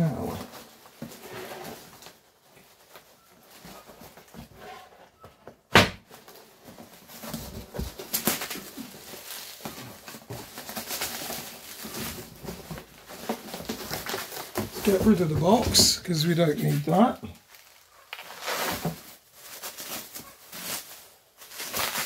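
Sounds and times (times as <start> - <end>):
cardboard and plastic crinkling: 0.0 - 4.6, 5.6 - 22.0.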